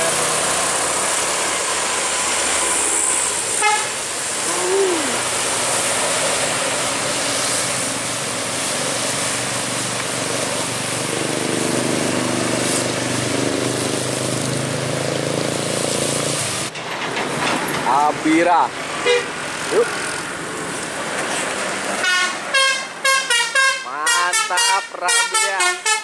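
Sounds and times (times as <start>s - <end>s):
bus engine running: 0.0s - 23.6s
road noise: 0.0s - 26.0s.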